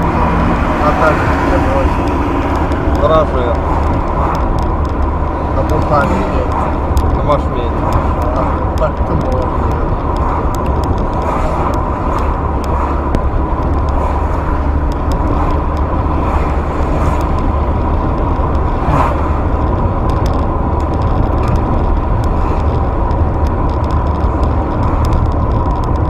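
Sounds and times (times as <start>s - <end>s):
light ticks and rattles: 0.0s - 26.0s
vehicle engine rumble: 0.0s - 26.0s.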